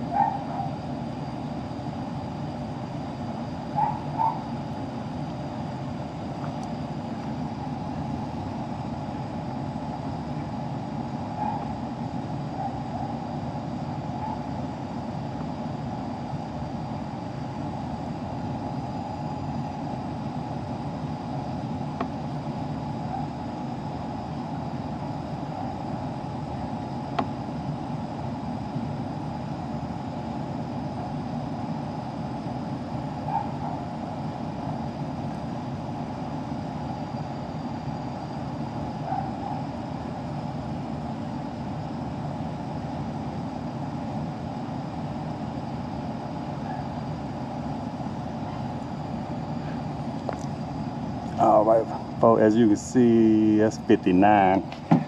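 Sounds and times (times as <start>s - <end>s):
air conditioner humming: 0.0s - 55.0s.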